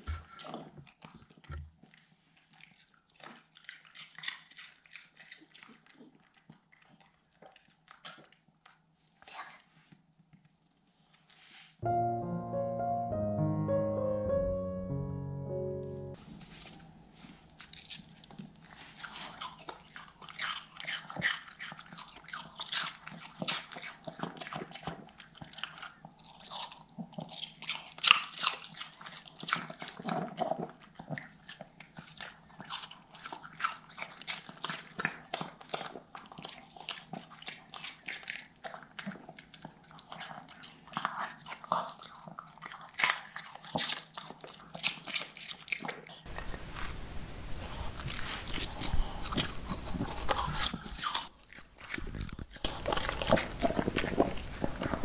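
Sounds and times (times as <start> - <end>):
dog chewing apple crunches: 0.0 - 8.8, 16.5 - 55.0.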